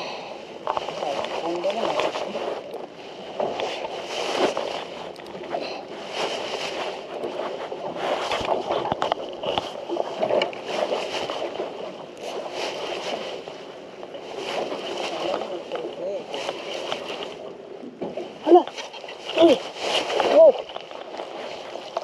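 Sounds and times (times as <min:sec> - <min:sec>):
water sloshing and gurgling: 0:00.0 - 0:22.0.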